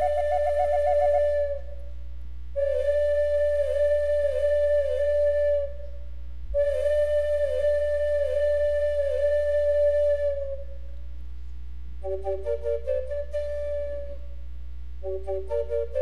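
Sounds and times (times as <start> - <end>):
solo flute playing: 0.0 - 2.0, 2.6 - 11.0, 12.0 - 14.4, 15.0 - 16.0.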